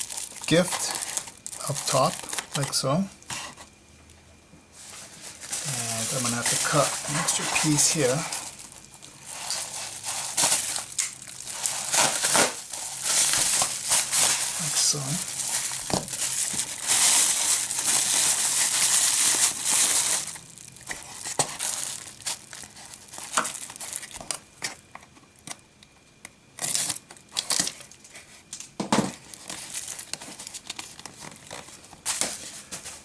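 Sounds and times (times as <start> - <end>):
packing material crinkling: 0.0 - 3.6, 4.8 - 25.6, 26.6 - 33.0.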